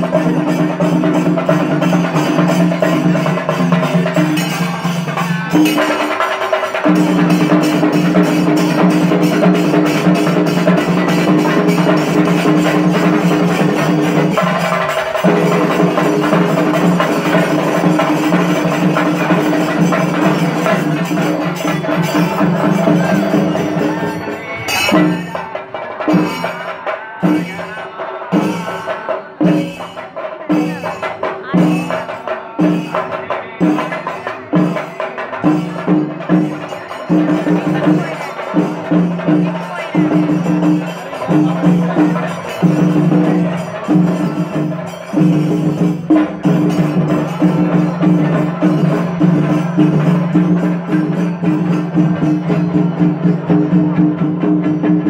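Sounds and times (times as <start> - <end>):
cymbals: 0.0 - 55.0
drums beaten in fast roll: 0.0 - 55.0.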